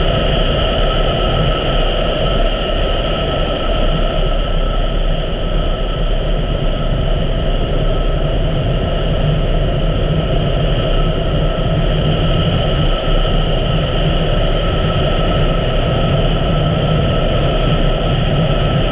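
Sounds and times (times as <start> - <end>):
wind and road noise: 0.0 - 18.9.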